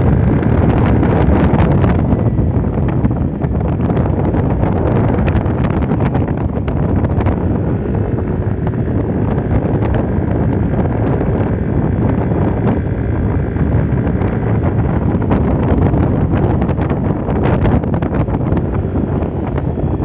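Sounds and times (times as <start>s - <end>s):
scooter engine running: 0.0s - 20.0s
wind buffeting microphone: 0.0s - 20.0s.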